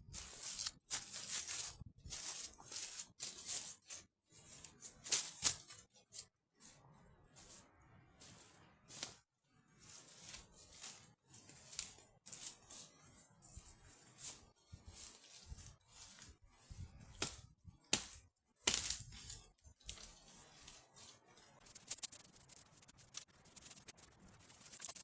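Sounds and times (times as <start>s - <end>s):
dry leaves and twigs crunching: 0.0s - 6.8s, 8.2s - 21.8s.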